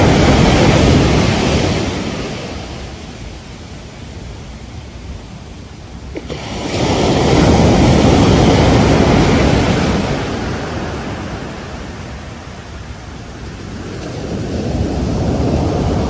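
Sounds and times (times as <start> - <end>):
ocean wave breaking on beach: 0.0 - 5.4, 6.0 - 16.0.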